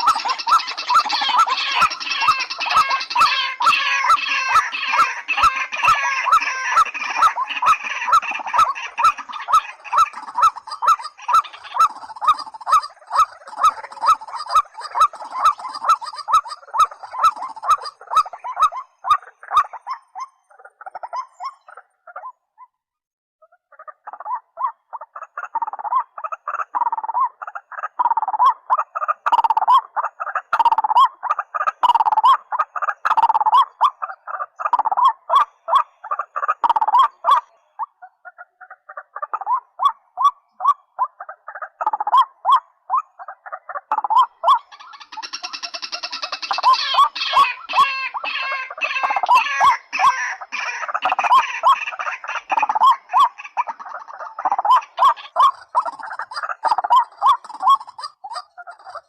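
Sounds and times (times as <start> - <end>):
bird calls: 0.0 - 22.8, 23.4 - 59.0.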